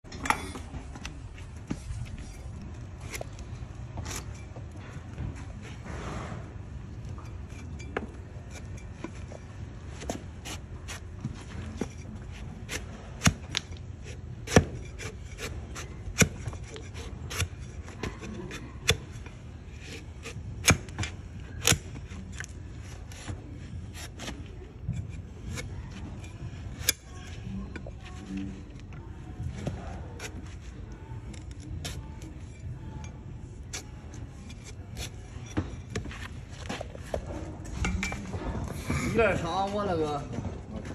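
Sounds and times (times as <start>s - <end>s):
hoof knife cutting and scraping: 1.7s - 39.1s.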